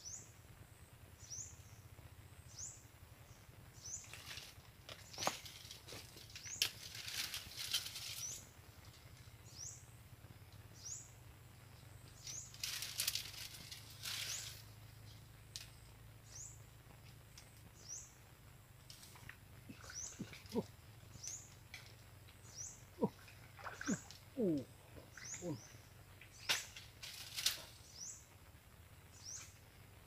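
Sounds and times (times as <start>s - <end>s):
dry palm fronds rustling: 1.2s - 30.0s.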